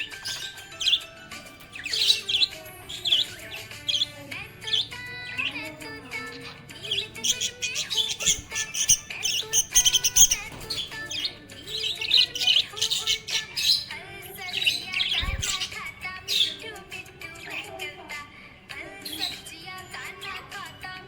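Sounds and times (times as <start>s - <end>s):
budgerigars chirping and warbling: 0.0s - 18.0s, 18.9s - 20.4s.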